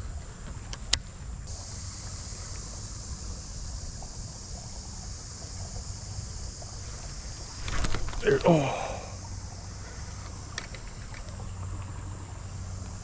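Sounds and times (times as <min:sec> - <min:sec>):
high hiss: 0:00.0 - 0:13.0.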